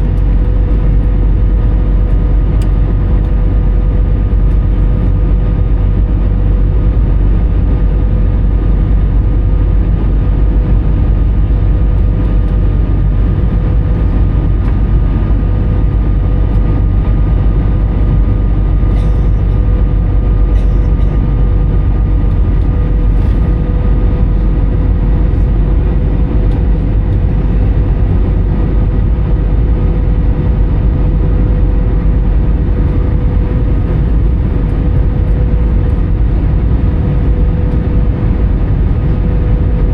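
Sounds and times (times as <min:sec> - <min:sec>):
airplane cabin rumble: 0:00.0 - 0:39.9
constant engine whine: 0:00.0 - 0:39.9.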